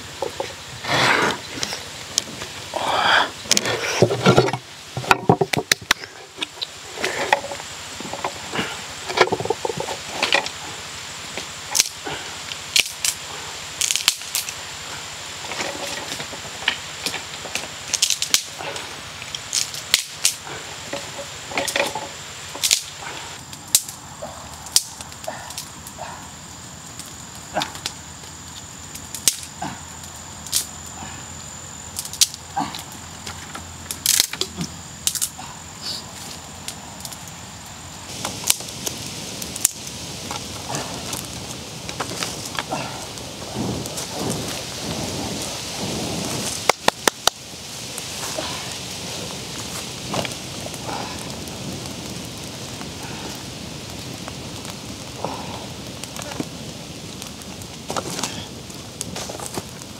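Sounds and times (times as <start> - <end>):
high-pitched insect drone: 0.0 - 59.9
wood crackling and popping: 0.0 - 59.9.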